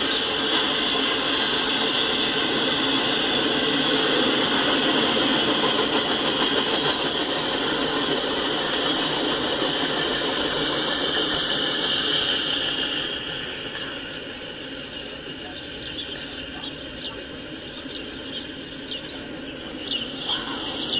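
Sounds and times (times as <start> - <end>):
steel wheels on rail: 0.0 - 20.9.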